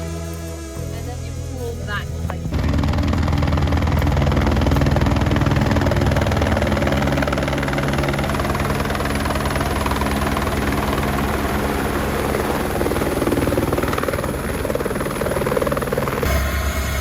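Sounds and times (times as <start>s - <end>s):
helicopter rotor chopping: 0.4s - 17.0s
helicopter engine hum: 1.7s - 17.0s.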